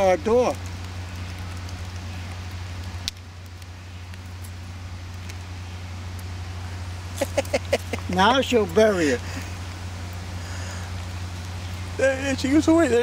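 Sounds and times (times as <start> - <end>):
low outdoor rumble and hum: 0.0 - 13.0.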